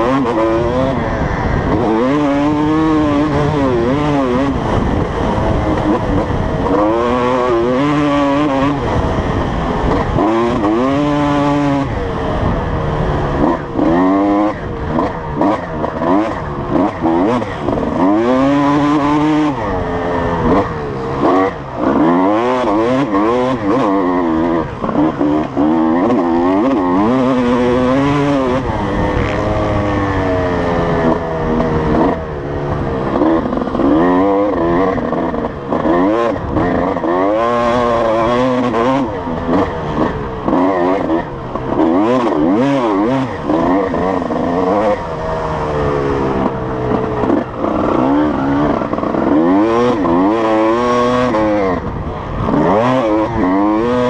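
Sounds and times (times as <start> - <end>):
two-stroke motocross engine revving: 0.0 - 54.0.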